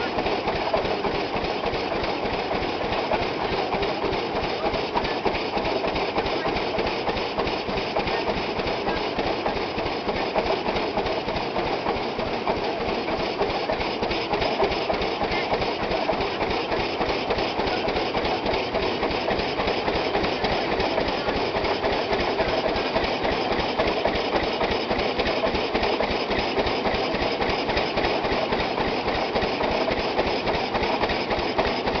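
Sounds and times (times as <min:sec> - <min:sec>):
threshing machine clattering: 0:00.0 - 0:32.0.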